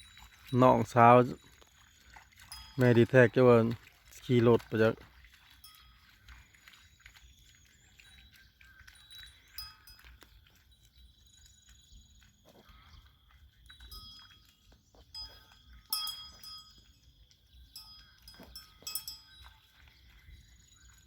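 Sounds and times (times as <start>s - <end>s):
livestock bells clanking: 0.0s - 21.0s.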